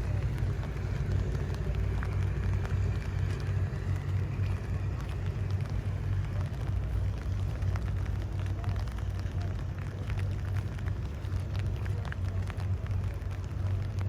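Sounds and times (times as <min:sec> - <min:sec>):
light raindrop ticks: 0:00.0 - 0:14.0
steady low rumble: 0:00.0 - 0:14.0.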